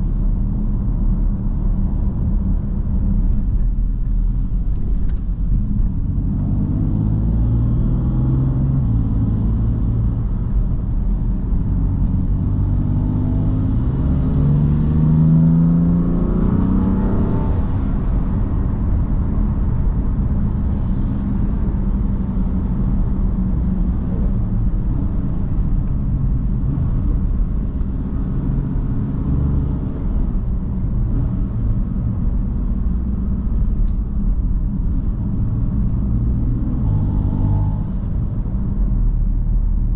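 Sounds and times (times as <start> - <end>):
car engine accelerating: 0.0 - 39.9
road and tyre noise: 0.0 - 39.9.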